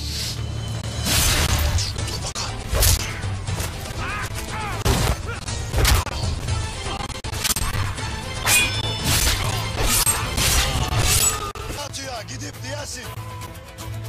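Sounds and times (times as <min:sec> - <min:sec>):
dramatic background music: 0:00.0 - 0:14.0.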